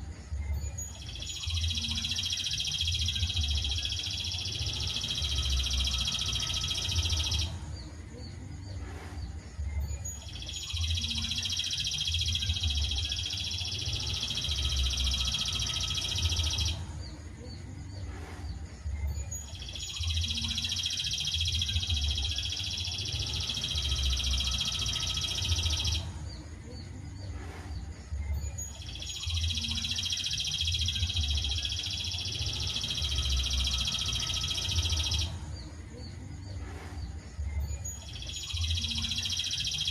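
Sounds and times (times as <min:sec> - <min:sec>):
faint bird chirps: 0:00.0 - 0:39.9
high-pitched songbird trill: 0:00.4 - 0:08.8, 0:09.6 - 0:18.1, 0:18.9 - 0:27.3, 0:28.2 - 0:36.6, 0:37.4 - 0:39.9.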